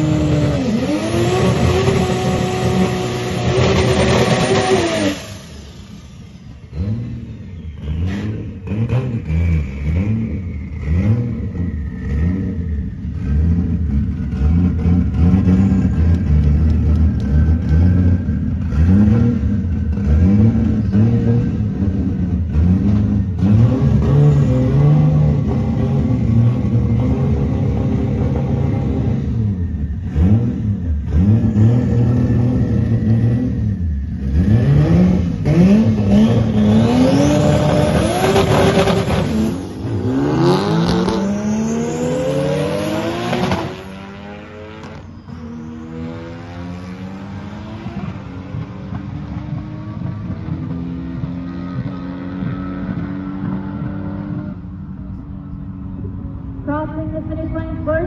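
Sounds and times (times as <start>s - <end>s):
drag car engines revving: 0.0s - 58.0s
engines accelerating through upshifts: 0.0s - 58.0s.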